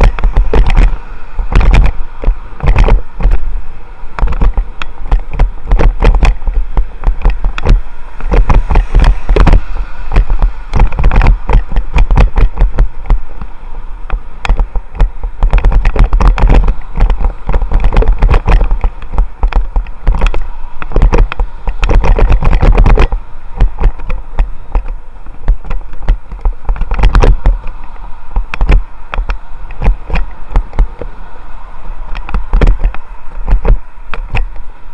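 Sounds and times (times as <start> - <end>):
bicycle knocks and rattles: 0.0 - 3.5, 4.1 - 31.2, 32.1 - 34.9
road traffic passing: 0.0 - 34.9
wind buffeting microphone: 0.0 - 34.9.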